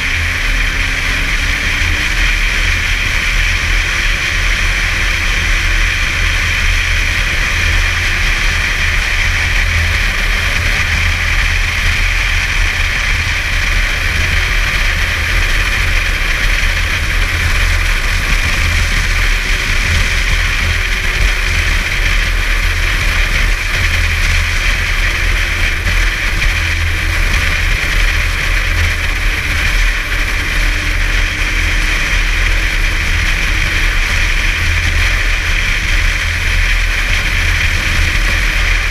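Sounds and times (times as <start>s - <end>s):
snowmobile engine running: 0.0s - 38.9s
wind rumble on microphone: 0.0s - 38.9s.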